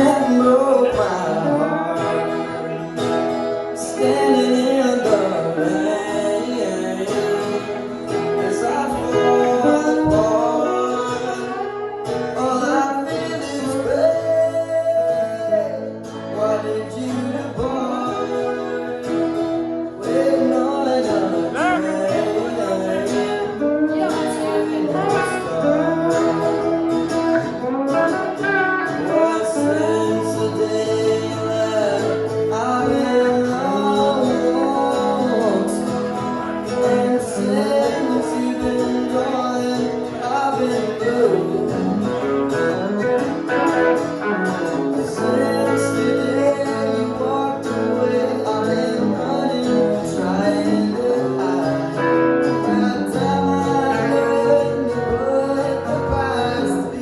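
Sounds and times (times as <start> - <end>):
guitar playing: 0.0 - 57.0
person singing: 0.0 - 57.0.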